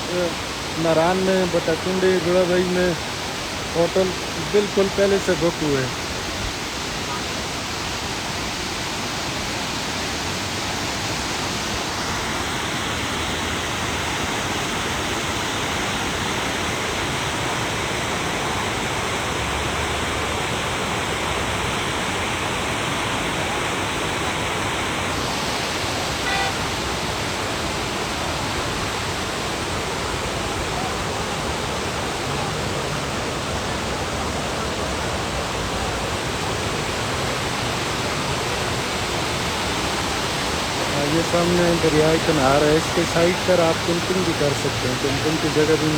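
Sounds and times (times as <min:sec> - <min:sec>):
fast-flowing river water: 0:00.0 - 0:45.9.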